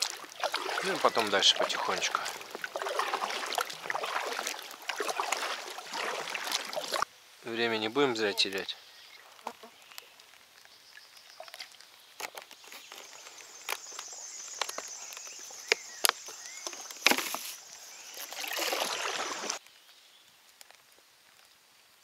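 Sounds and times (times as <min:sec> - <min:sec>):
large raindrops pattering: 0:00.0 - 0:17.0, 0:18.9 - 0:22.0
rush of splashing water: 0:00.0 - 0:19.7.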